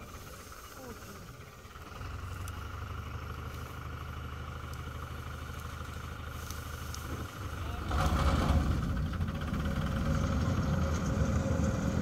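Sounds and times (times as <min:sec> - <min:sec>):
tractor diesel engine drone: 0:00.0 - 0:12.0.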